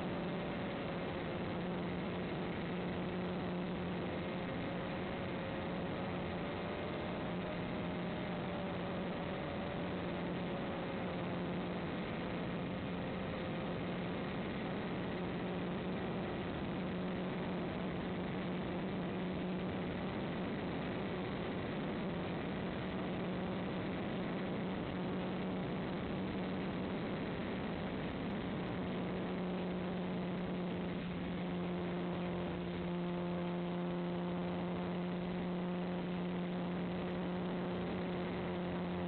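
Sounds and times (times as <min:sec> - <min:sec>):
model aircraft motor hum: 0:00.0 - 0:39.0.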